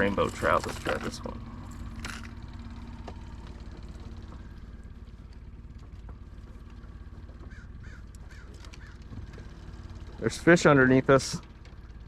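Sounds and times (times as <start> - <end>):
small boat motor running: 0.0 - 12.0.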